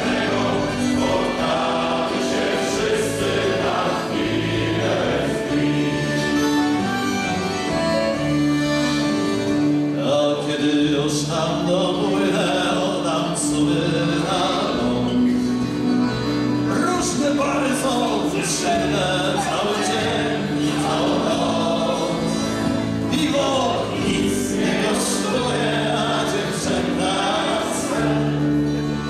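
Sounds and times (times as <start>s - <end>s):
male choir singing: 0.0s - 7.0s, 10.0s - 15.3s, 17.4s - 29.0s.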